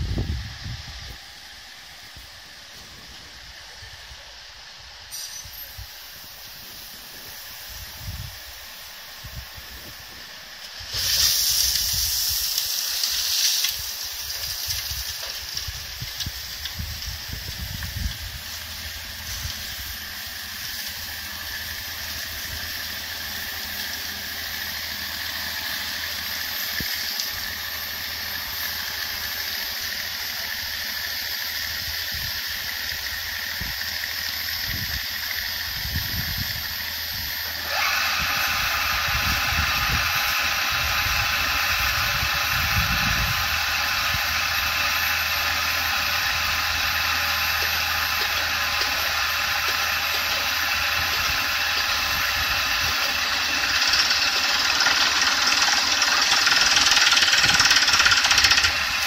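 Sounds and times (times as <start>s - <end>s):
drilling rig engine and pump: 0.0s - 59.0s
rushing water-like hiss: 0.0s - 59.0s.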